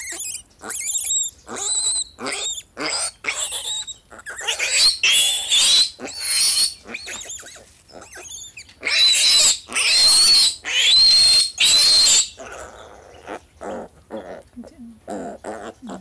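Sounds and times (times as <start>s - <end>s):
piglet screaming: 0.0s - 14.4s.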